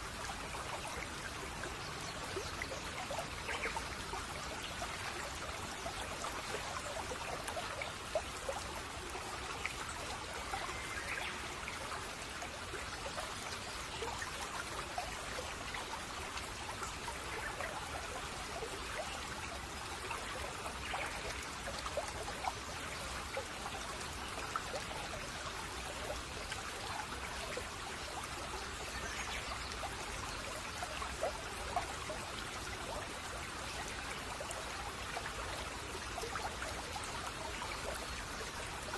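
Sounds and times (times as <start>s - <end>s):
brook babbling over stones: 0.0s - 38.9s.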